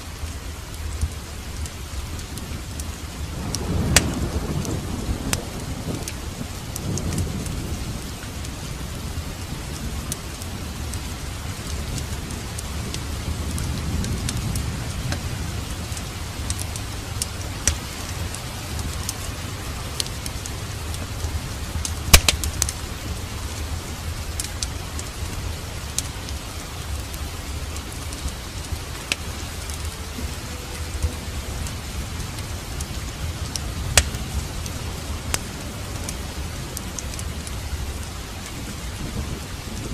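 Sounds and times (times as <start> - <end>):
fireplace fire crackling: 0.0 - 39.9
steady rain: 0.0 - 39.9
thunder rumble: 0.0 - 39.9.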